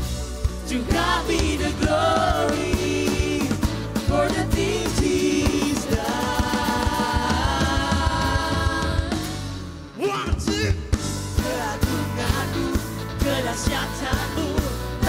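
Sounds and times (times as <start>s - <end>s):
band with steady drum beat: 0.0s - 15.0s
men singing worship song: 0.6s - 9.6s, 11.3s - 15.0s.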